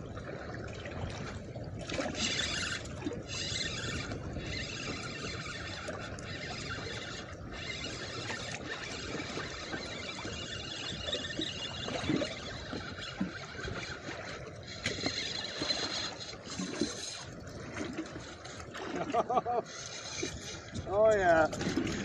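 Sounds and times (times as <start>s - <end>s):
water slapping against boat hull: 0.0s - 19.6s, 20.2s - 22.0s
wind: 0.0s - 22.0s.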